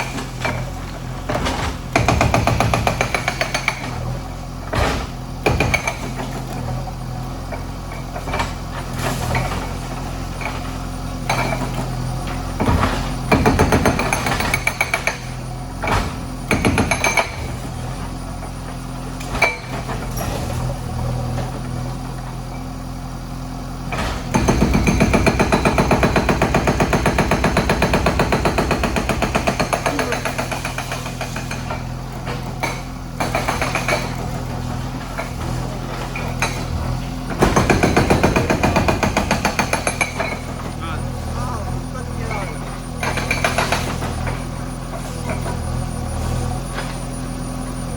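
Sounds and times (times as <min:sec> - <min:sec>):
hydraulic breaker hammering: 0:00.0 - 0:06.8, 0:07.5 - 0:47.9
diesel engine running: 0:00.0 - 0:47.9.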